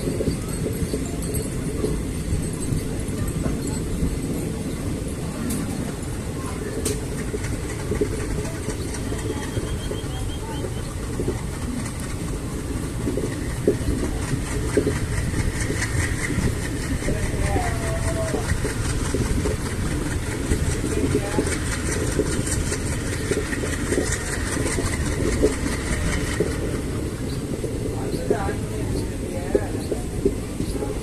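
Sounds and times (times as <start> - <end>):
diesel engine clattering: 0.0 - 31.0.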